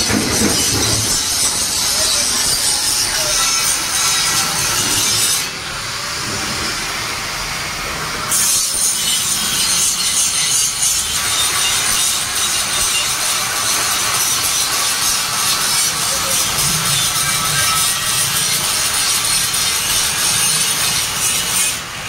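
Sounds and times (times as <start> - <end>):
angle grinder grinding steel: 0.0 - 7.0, 8.3 - 22.0.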